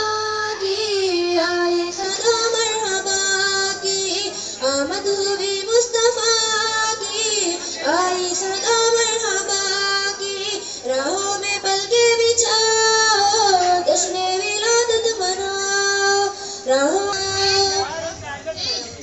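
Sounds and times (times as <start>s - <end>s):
person singing devotional melody: 0.0s - 18.2s.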